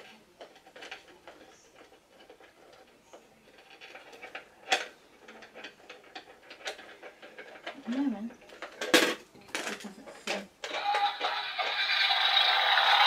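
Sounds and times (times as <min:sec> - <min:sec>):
plastic clicks and rattles: 0:00.0 - 0:11.4.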